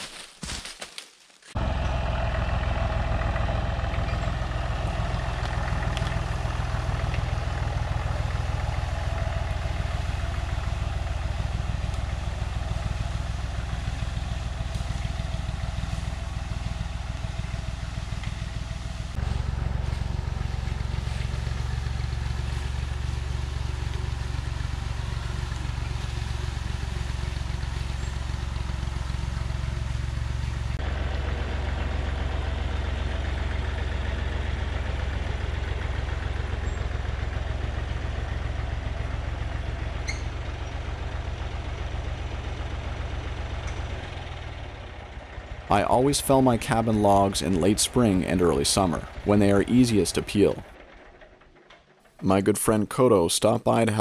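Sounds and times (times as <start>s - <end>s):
tractor engine running: 1.5s - 54.0s.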